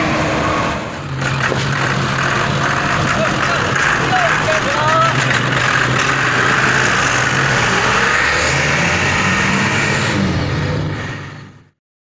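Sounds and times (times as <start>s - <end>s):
diesel truck engine running: 0.0s - 11.8s.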